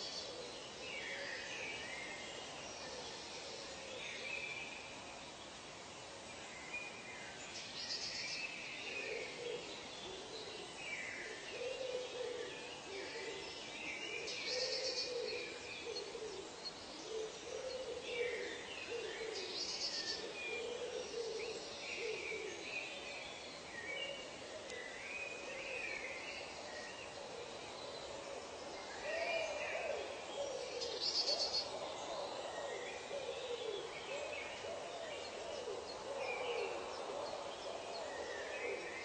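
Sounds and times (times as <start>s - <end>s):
low repeated bird calls: 6.4s - 39.0s.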